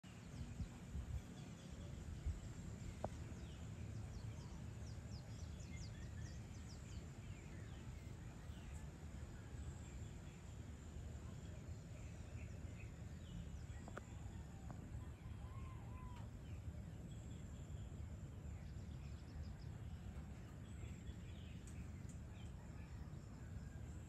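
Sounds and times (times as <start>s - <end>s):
low outdoor rumble: 0.0s - 24.0s
birds chirping: 0.1s - 24.0s.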